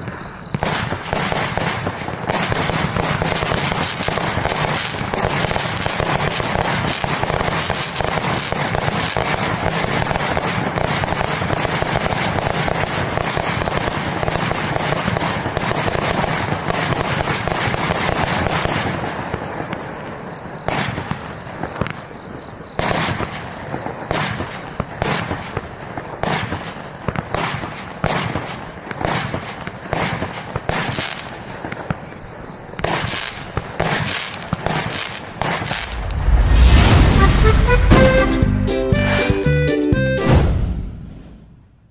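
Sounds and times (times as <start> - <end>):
firework cake firing: 0.0 - 19.9, 20.6 - 22.2, 22.8 - 37.0
firework crackling bursts: 0.0 - 38.6.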